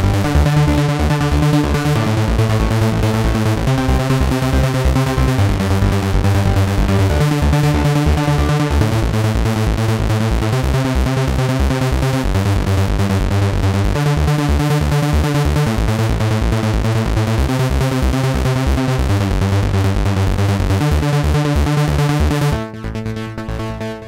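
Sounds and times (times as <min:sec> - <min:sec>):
pulsing bass beat: 0:00.0 - 0:22.9
synthesizer chords: 0:00.0 - 0:24.0.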